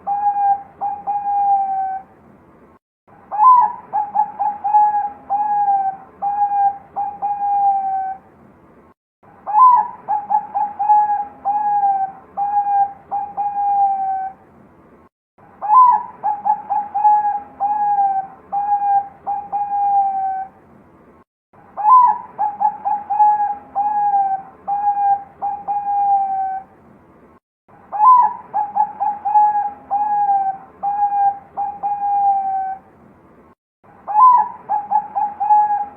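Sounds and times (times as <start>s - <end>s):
dove cooing song: 0.0s - 2.2s, 3.3s - 8.2s, 9.5s - 14.4s, 15.6s - 20.6s, 21.7s - 26.7s, 27.9s - 32.9s, 34.0s - 35.9s.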